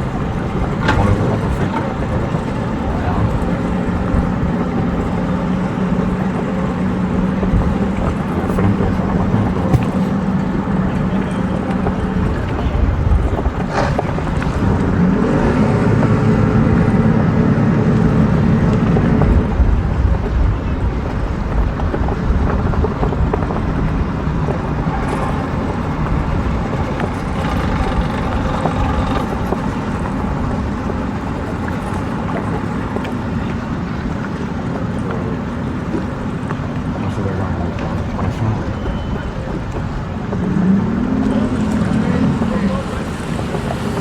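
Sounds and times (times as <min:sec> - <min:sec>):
boat engines running: 0:00.0 - 0:44.0.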